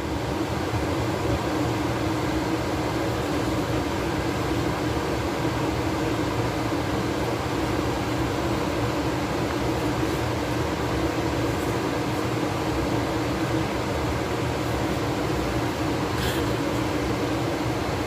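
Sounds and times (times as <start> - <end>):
machine whirring with low hum: 0.0 - 18.0.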